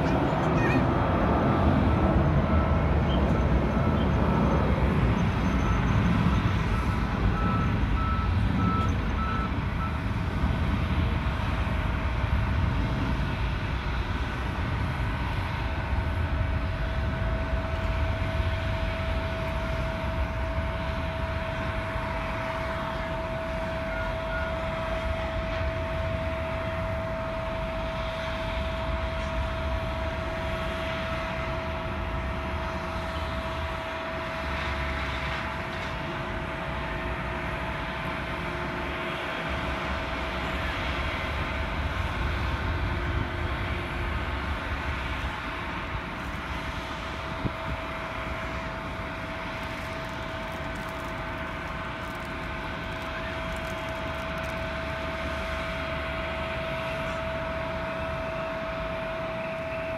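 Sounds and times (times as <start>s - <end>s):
jet engines rumbling: 0.0s - 59.9s
steady whine: 0.0s - 59.9s.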